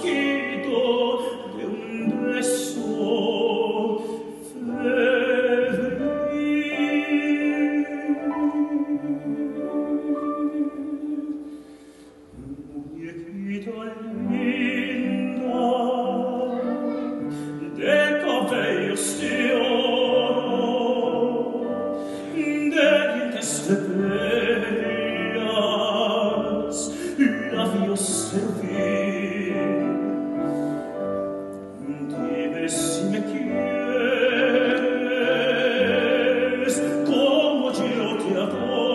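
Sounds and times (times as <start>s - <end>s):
keyboard accompaniment: 0.0s - 38.9s.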